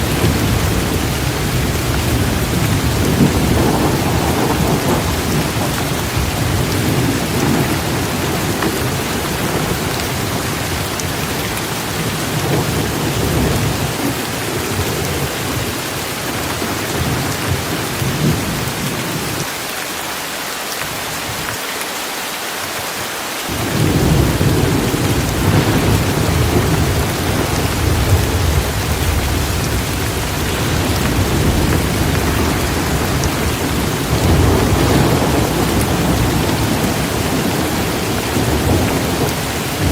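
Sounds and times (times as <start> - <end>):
thunder rumbling: 0.0 - 19.4, 23.5 - 39.9
torrential rain: 0.0 - 39.9.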